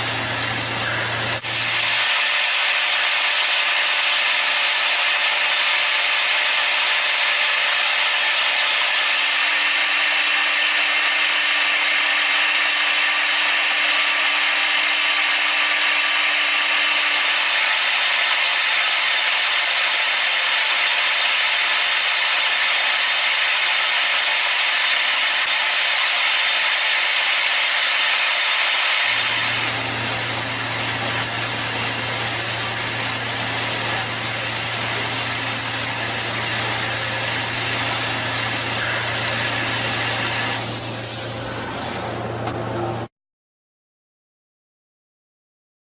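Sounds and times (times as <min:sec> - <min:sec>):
machine tool cutting metal: 0:00.0 - 0:42.2
machine hum with low drone: 0:00.0 - 0:43.1.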